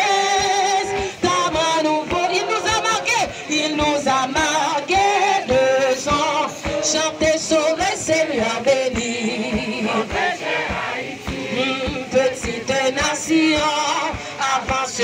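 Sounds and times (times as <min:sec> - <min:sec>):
group singing a hymn: 0:00.0 - 0:15.0
woman singing into a microphone: 0:00.0 - 0:15.0.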